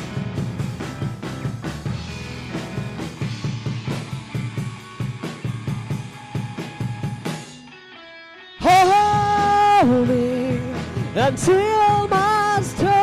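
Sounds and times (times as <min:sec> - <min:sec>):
steady drum beat: 0:00.0 - 0:07.6, 0:08.7 - 0:13.0
live band guitar: 0:00.0 - 0:13.0.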